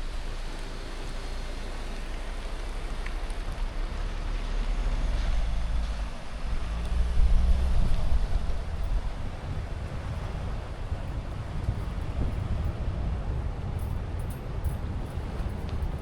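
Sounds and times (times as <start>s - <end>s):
car engine hum: 0.0s - 16.0s
tyres and wind rumble: 0.0s - 16.0s.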